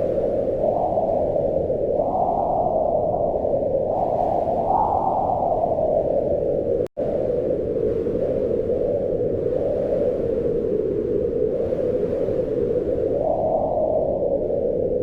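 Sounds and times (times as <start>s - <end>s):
muffled wind rushing in gusts: 0.0s - 15.0s.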